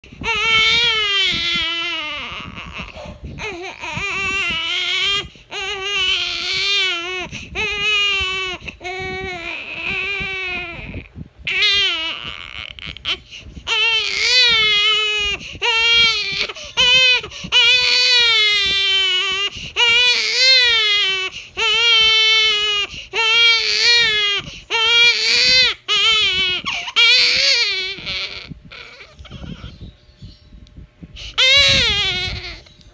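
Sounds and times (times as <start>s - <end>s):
infant crying: 0.2s - 29.8s, 31.2s - 32.7s.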